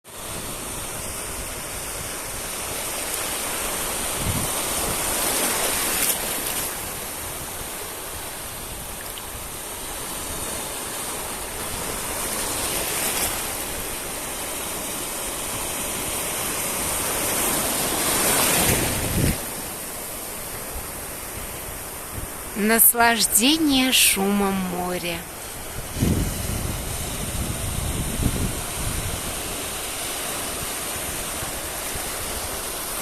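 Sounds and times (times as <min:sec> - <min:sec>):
waves breaking on beach: 0:00.1 - 0:33.0.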